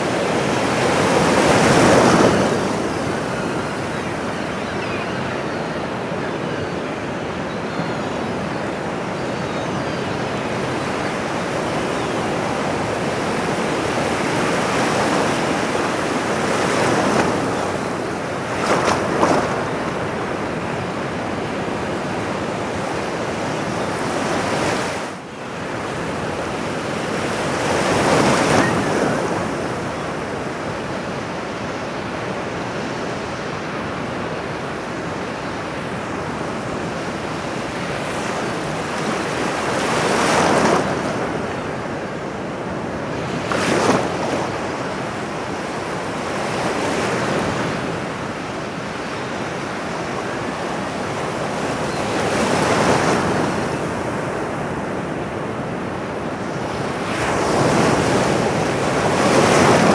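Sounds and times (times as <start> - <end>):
ocean waves washing on shore: 0.0 - 7.6, 8.2 - 59.9.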